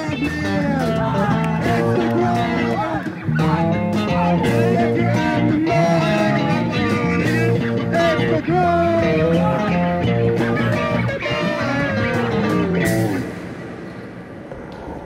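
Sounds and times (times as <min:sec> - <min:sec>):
rock band music: 0:00.0 - 0:13.8.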